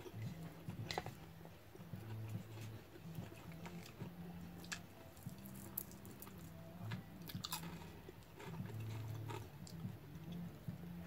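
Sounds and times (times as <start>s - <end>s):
chewing and mouth sounds: 0.0s - 10.6s.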